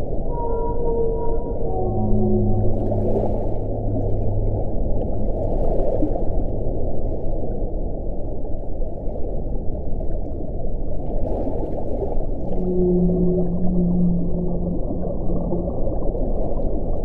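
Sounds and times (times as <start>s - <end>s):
faint low howling tone: 0.0s - 11.0s, 12.0s - 17.0s.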